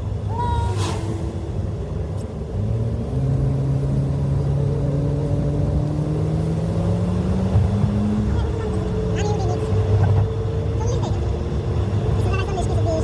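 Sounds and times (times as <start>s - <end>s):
low road rumble: 0.0s - 13.0s
vehicle engine accelerating: 0.0s - 13.0s.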